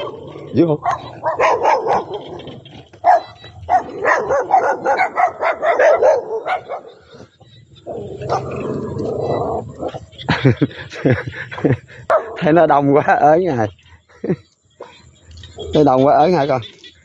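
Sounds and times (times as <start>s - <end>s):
dogs barking: 0.0s - 13.3s, 14.7s - 16.5s.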